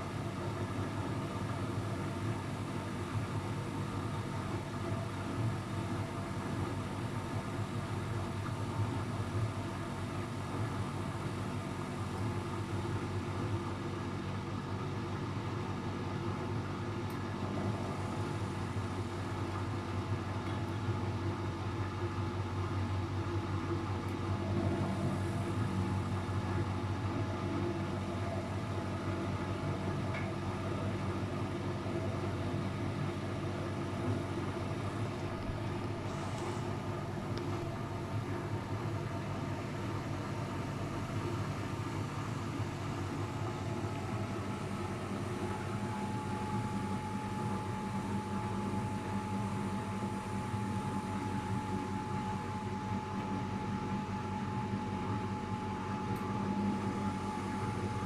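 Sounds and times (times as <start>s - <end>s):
washing machine motor hum: 0.0s - 58.0s.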